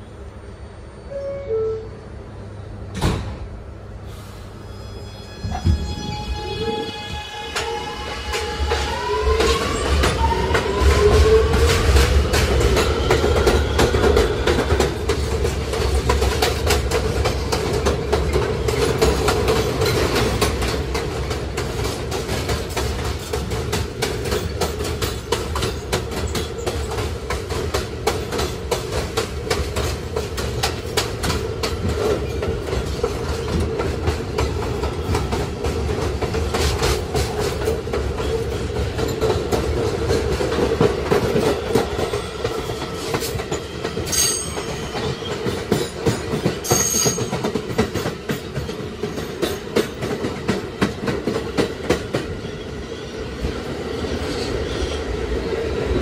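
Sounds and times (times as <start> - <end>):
subway car running on track: 0.0 - 56.0.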